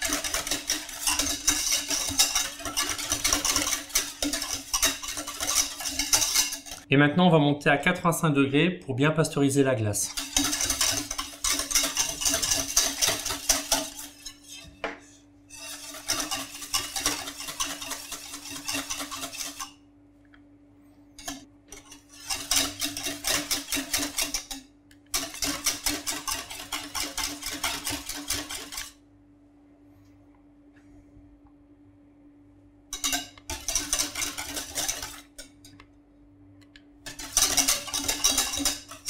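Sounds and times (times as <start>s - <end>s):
whisk scraping metal saucepan: 0.0s - 8.2s, 9.2s - 19.8s, 21.2s - 29.0s, 32.9s - 35.8s, 37.0s - 39.0s.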